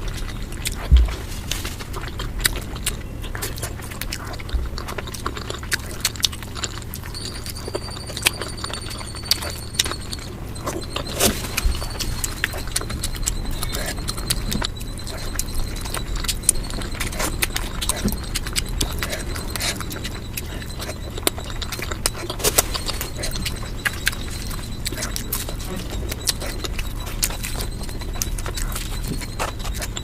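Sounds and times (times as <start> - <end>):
chewing clicks and crunches: 0.0 - 30.0.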